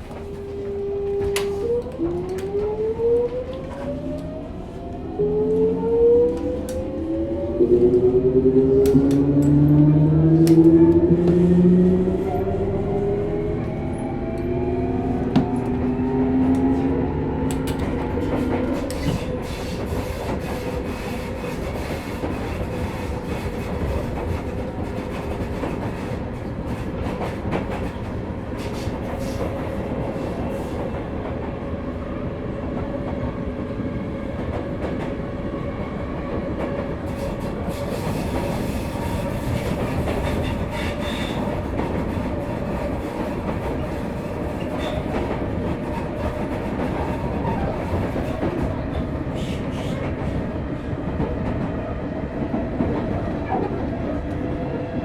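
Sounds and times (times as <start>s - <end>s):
train wheel rumble: 0.0s - 55.0s.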